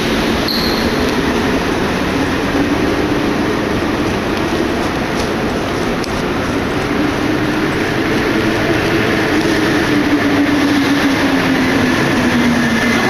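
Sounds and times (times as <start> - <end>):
subway train rumbling with whine: 0.0 - 13.0.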